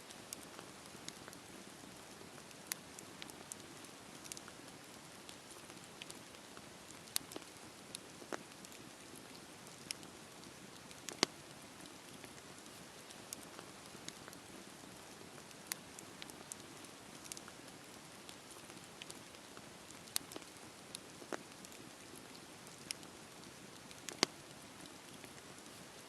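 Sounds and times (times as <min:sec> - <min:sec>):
campfire crackling and popping: 0:00.1 - 0:26.0.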